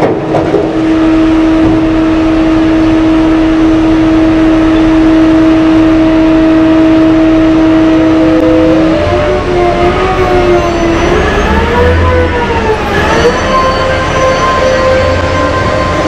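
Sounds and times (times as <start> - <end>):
dump truck whine and rumble: 0.0 - 16.0.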